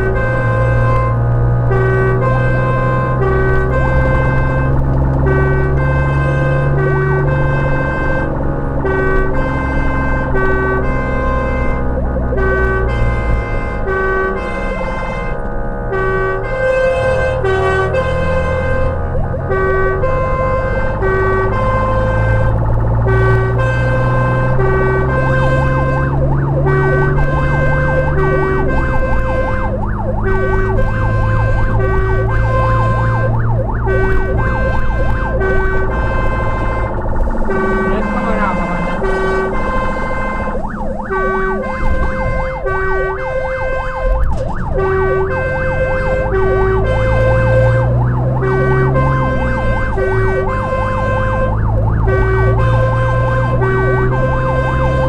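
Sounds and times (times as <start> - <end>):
truck engine running: 0.0 - 55.0
two-tone siren: 0.0 - 55.0.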